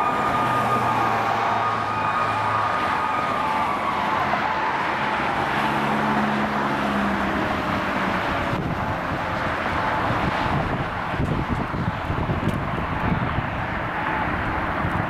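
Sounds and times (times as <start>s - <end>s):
engine and traffic noise: 0.0s - 15.0s
fire engine siren winding down: 0.0s - 15.0s.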